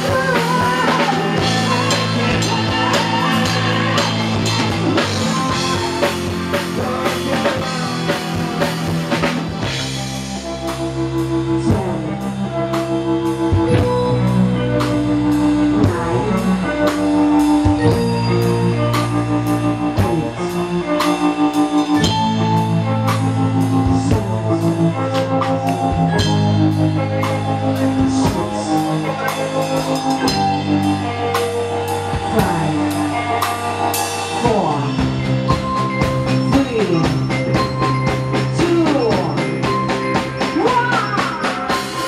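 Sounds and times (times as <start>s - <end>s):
drum kit beat: 0.0s - 42.0s
live band playing: 0.0s - 42.0s.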